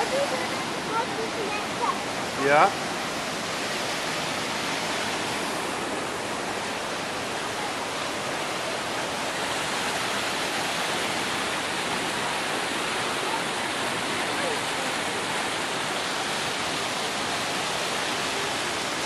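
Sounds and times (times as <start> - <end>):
creek rushing over boulders: 0.0 - 19.0.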